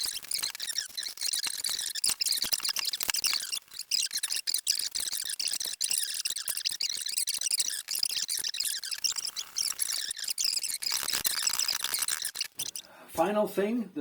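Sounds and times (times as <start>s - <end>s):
rubber squeaking against bicycle rim: 0.0s - 12.9s.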